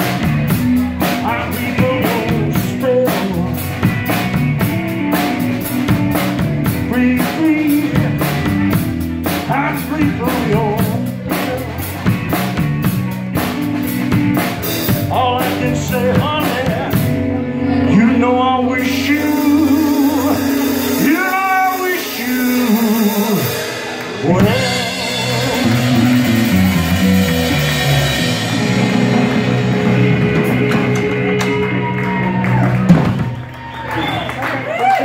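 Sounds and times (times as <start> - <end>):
drum kit: 0.0 - 17.4, 18.8 - 35.0
electric bass: 0.0 - 35.0
lead electric guitar: 0.0 - 35.0.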